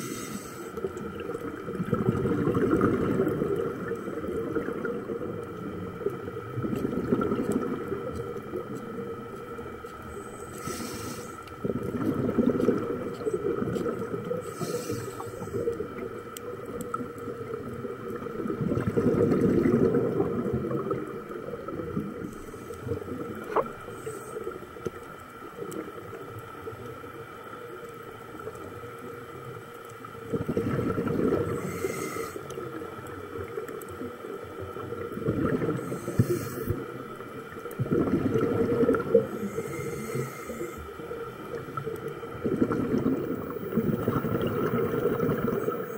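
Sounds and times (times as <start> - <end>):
faint high hum: 0.0 - 30.4, 31.1 - 45.9
exhaled bubbles gurgling underwater: 0.0 - 45.9.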